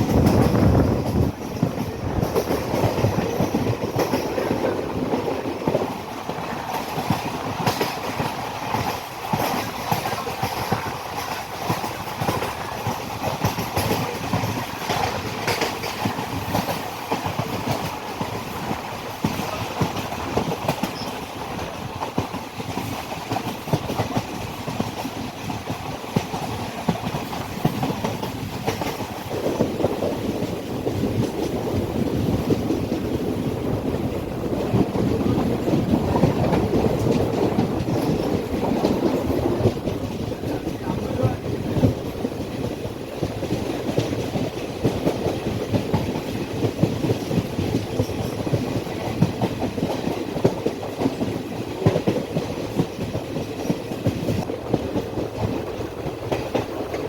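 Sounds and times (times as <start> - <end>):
train rattle and rumble: 0.0 - 57.0
train wheels clicking over rails: 0.0 - 57.0.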